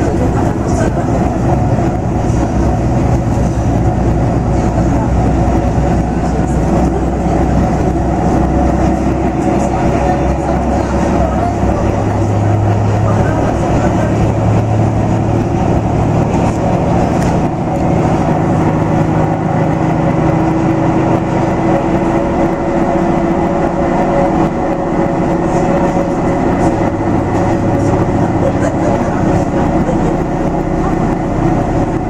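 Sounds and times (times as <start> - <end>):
diesel railcar engine: 0.0 - 32.0
wheel and rail noise: 0.0 - 32.0.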